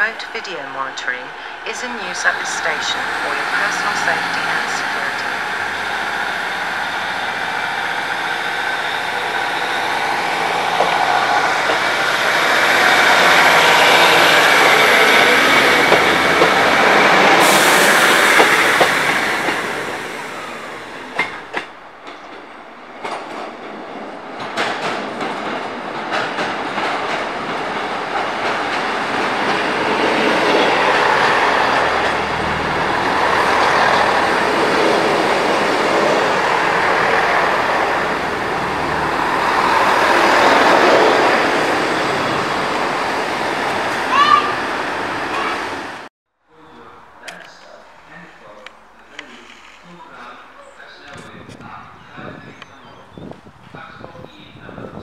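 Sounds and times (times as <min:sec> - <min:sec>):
second diesel train approaching: 0:00.0 - 0:54.8
diesel train engine and wheels: 0:00.0 - 0:55.0.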